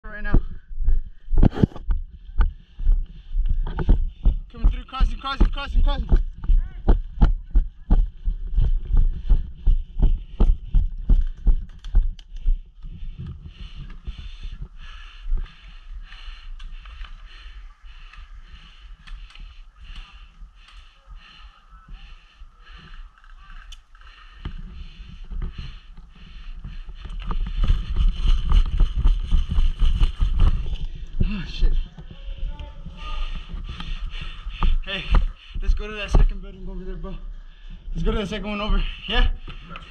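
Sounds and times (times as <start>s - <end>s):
low rumble of wind: 0.0s - 38.4s.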